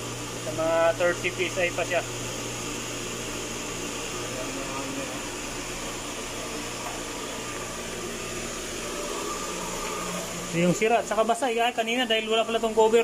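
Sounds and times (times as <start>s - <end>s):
electric water pump humming: 0.0s - 13.0s.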